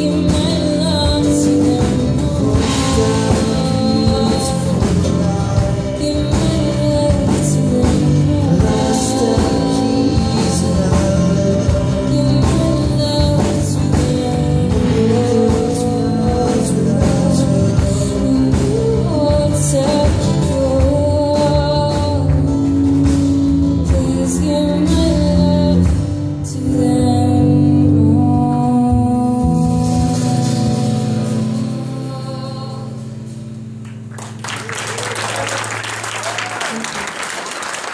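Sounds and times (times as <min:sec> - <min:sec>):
woman singing: 0:00.0 - 0:33.6.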